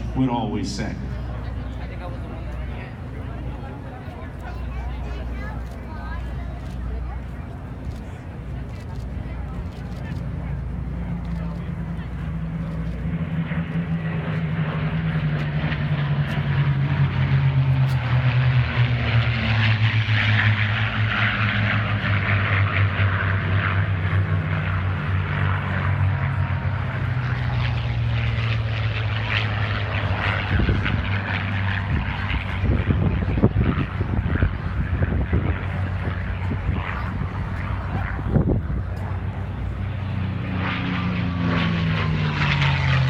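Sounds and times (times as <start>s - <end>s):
propeller aircraft engines droning: 0.0s - 43.0s.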